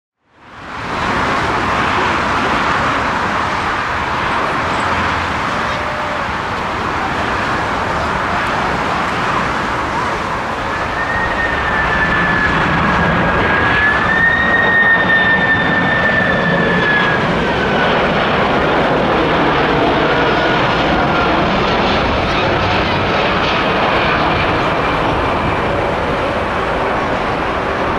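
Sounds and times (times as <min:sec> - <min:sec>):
jet engines roaring: 0:00.3 - 0:27.9
high engine whine: 0:00.4 - 0:27.9.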